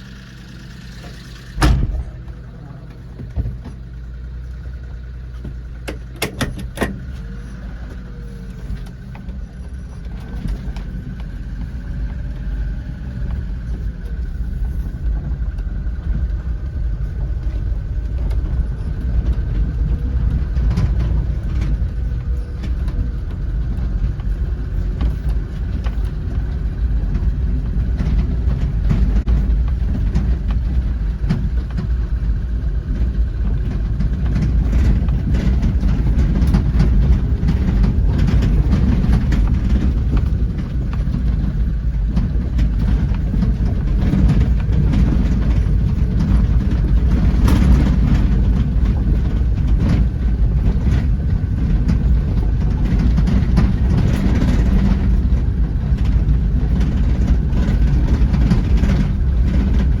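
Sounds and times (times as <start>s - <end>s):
heavy low rumble: 0.0s - 60.0s.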